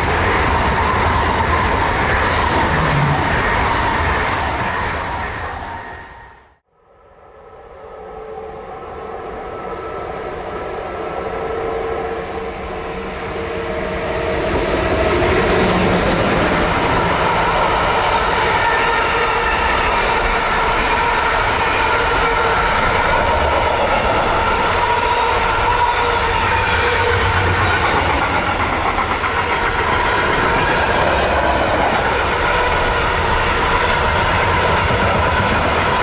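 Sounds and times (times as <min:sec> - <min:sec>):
train wheels rumbling: 0:00.0 - 0:06.4, 0:12.5 - 0:36.0
train whine of steady tones: 0:00.0 - 0:36.0.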